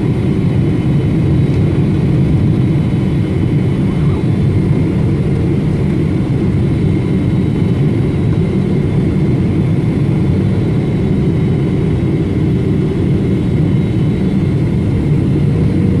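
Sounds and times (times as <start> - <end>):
jet cabin engine rumble: 0.0 - 16.0.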